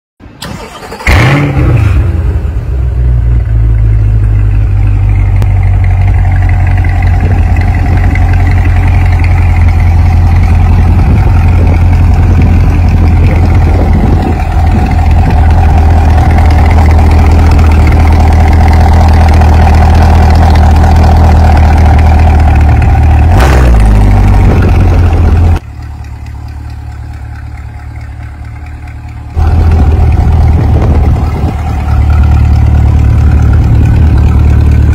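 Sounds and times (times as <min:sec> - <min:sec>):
car engine starting and idling: 0:00.2 - 0:34.9.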